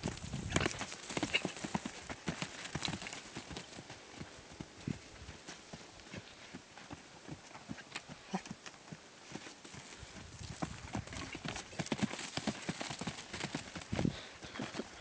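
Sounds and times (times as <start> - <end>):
horse hoofbeats on dirt: 0.0 - 15.0.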